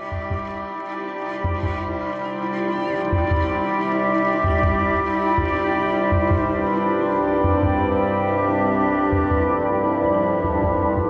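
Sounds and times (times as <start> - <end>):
background music chords: 0.0 - 11.0.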